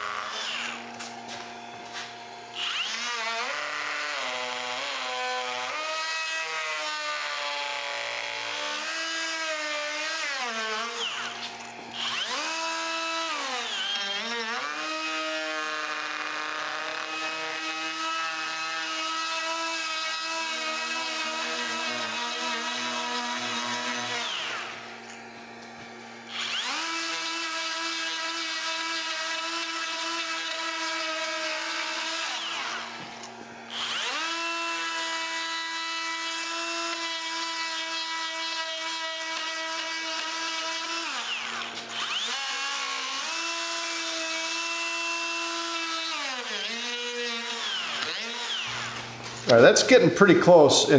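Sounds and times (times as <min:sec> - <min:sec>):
die grinder whining into wood: 0:00.0 - 0:50.6.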